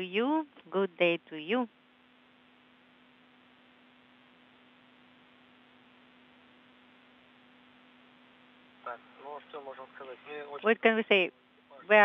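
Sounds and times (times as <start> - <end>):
faint steady hiss: 0.0 - 12.0
low steady hum: 0.0 - 12.0.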